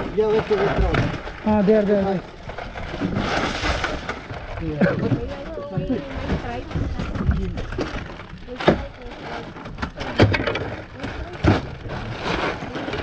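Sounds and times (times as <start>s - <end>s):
water slapping boat hull: 0.0s - 13.0s.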